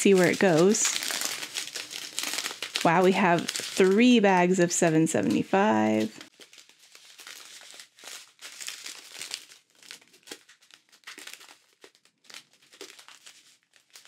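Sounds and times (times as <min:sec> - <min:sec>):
plastic bags crinkling: 0:00.0 - 0:14.0.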